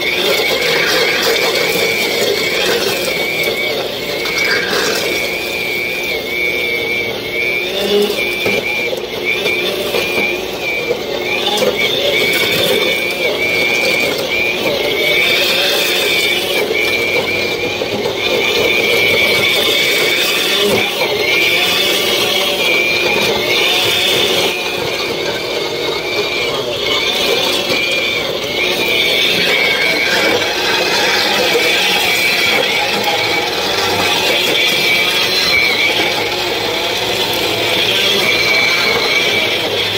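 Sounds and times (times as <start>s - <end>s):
tines churning dry soil: 0.0s - 6.1s, 9.0s - 39.9s
rototiller motor whine: 0.0s - 39.9s.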